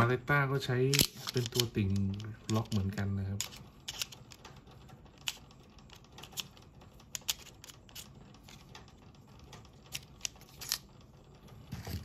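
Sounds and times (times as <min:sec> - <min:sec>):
plastic parts clicking and tapping: 0:00.8 - 0:10.9.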